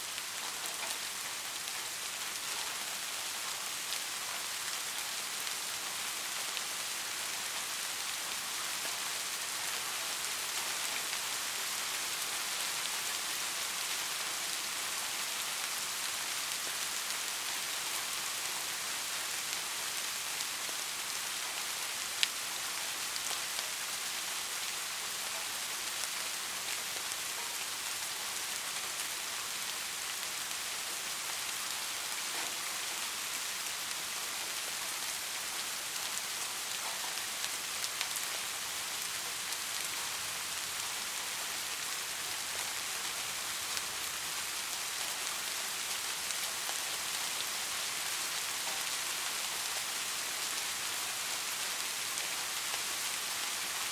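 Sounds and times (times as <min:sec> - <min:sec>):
gentle rain falling: 0:00.0 - 0:53.9.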